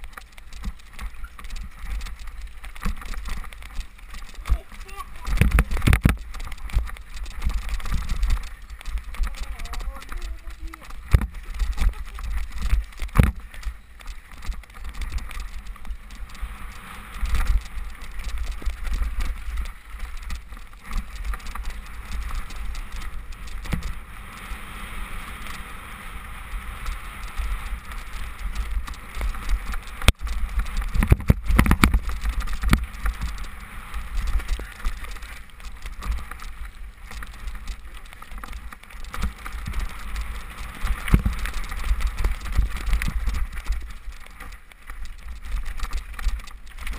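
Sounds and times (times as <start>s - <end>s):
mountain bike rumble and rattle: 0.0s - 46.9s
tyre noise: 0.0s - 46.9s
wind: 0.0s - 46.9s.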